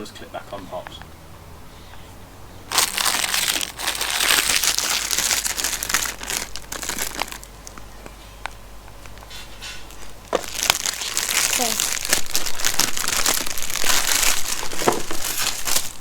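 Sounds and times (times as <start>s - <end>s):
plastic packaging crinkling: 2.7s - 16.0s.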